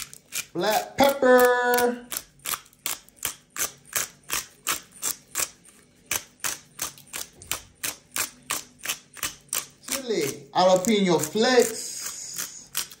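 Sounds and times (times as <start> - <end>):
pepper grinder clicking: 0.0 - 13.0.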